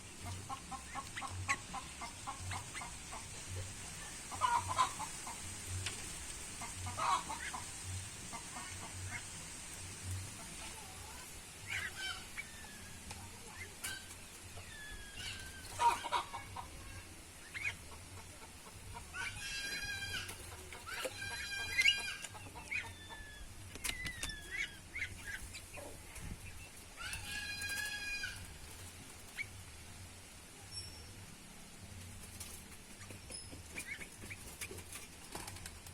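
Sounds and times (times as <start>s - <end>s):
small birds chirping: 0.0s - 29.8s, 30.6s - 35.9s.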